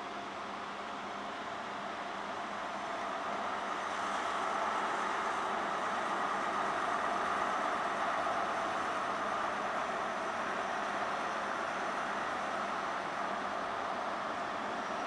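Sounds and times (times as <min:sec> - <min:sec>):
diesel train engine drone: 0:00.0 - 0:15.0.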